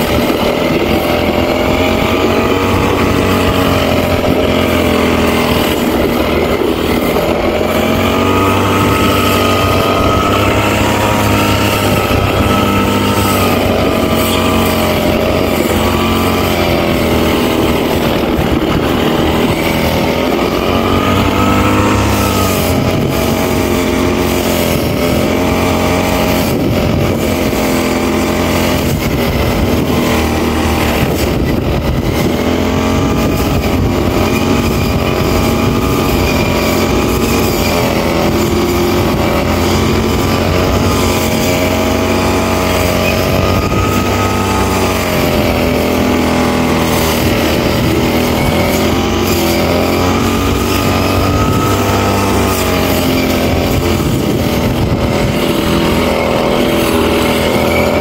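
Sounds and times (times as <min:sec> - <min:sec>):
brush cutter engine running: 0:00.0 - 0:58.0.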